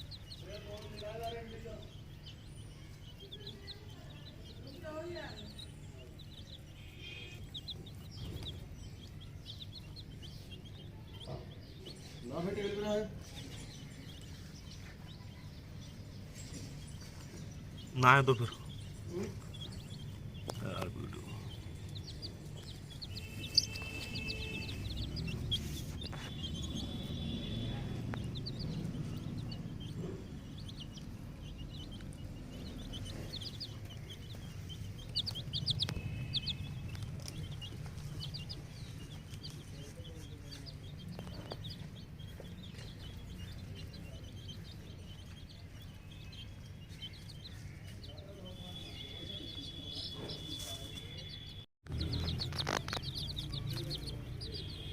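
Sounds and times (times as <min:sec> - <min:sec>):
chicks peeping: 0:00.0 - 0:54.9.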